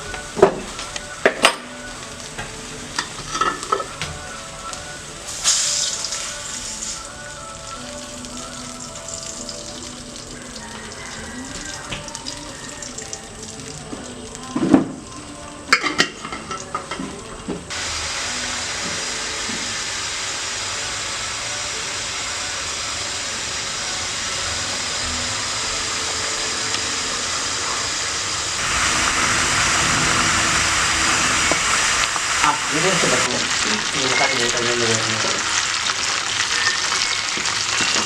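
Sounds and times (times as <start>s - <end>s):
meat sizzling in hot oil: 0.0s - 38.0s.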